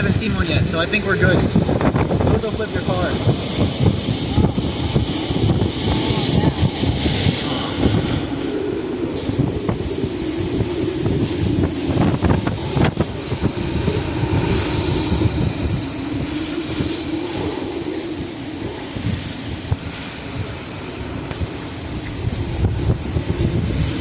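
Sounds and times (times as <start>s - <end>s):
hurricane winds rushing: 0.0s - 24.0s.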